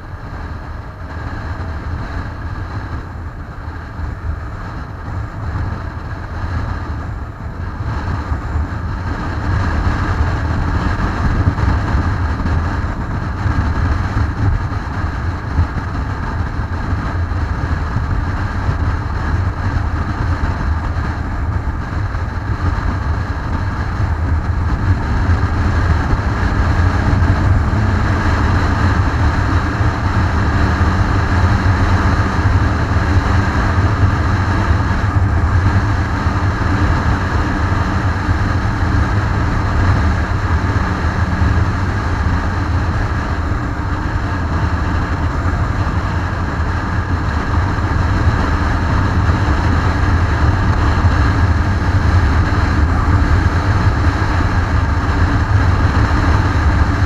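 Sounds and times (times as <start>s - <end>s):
motorcycle engine: 0.0s - 57.0s
wind buffeting microphone: 0.0s - 57.0s.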